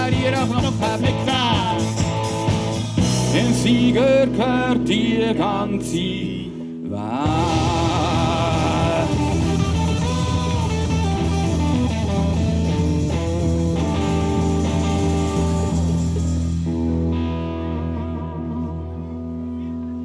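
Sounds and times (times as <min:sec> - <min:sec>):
live rock band playing: 0:00.0 - 0:06.1, 0:07.3 - 0:20.0.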